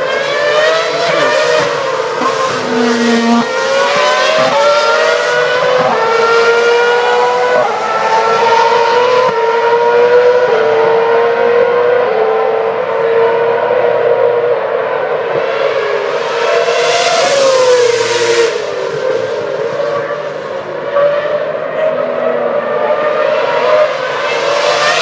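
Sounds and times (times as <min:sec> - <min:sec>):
racing car engines at high revs: 0:00.0 - 0:25.0.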